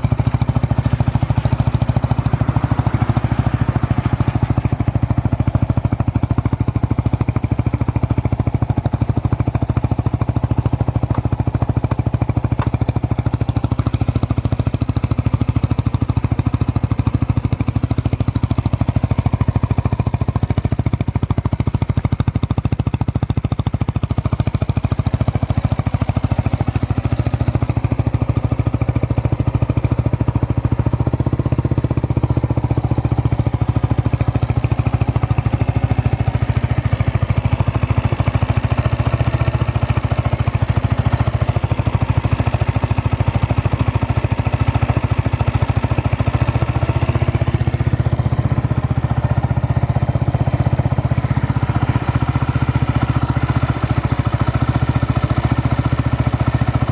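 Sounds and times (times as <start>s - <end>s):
single-cylinder engine idling: 0.0s - 56.9s.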